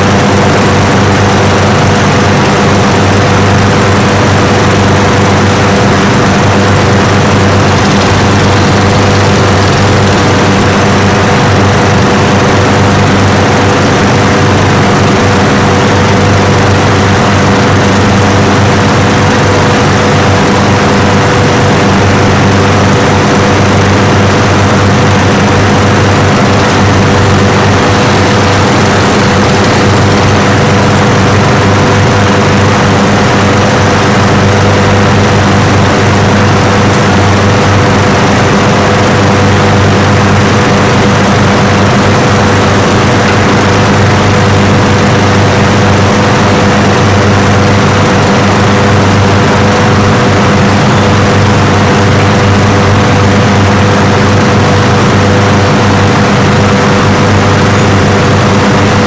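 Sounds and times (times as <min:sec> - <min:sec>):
lawn mower engines droning: 0:00.0 - 0:59.0.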